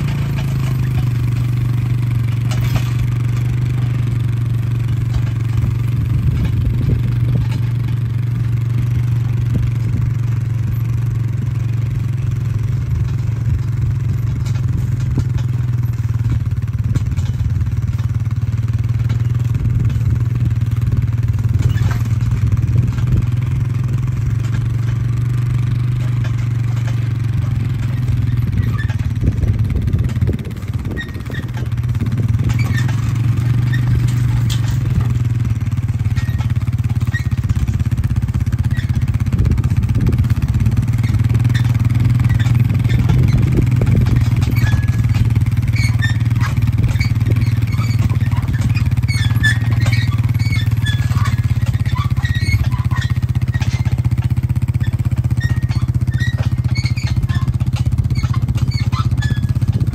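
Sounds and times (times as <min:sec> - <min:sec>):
atv engine running: 0:00.0 - 0:59.9
light clicks and squeaks: 0:09.2 - 0:59.9.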